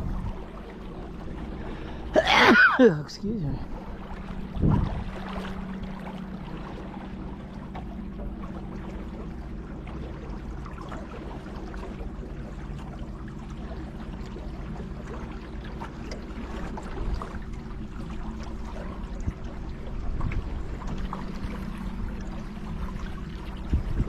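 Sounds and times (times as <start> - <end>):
motorboat engine humming: 0.0 - 24.0
river water wash: 0.0 - 24.0.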